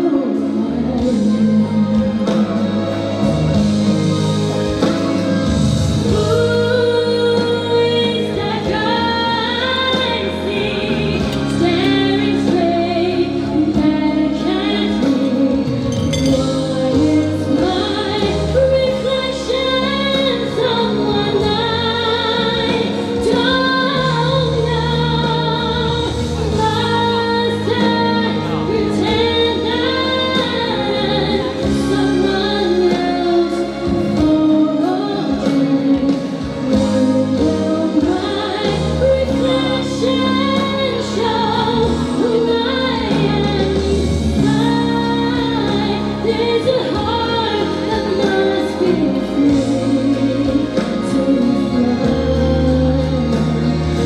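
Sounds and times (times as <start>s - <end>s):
woman singing into microphone: 0.0s - 4.2s, 5.8s - 54.0s
instrumental accompaniment: 0.0s - 54.0s.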